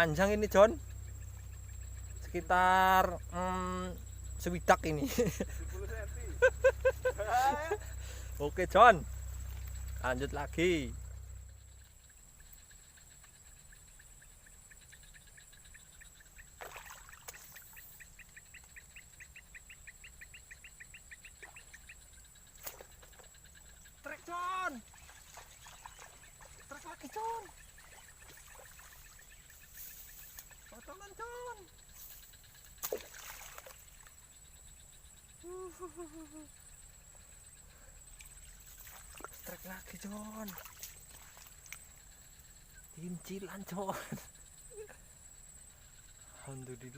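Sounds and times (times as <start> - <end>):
bird chirping: 0.0 - 46.9
crickets trilling: 0.0 - 46.9
high insect drone: 0.0 - 46.9.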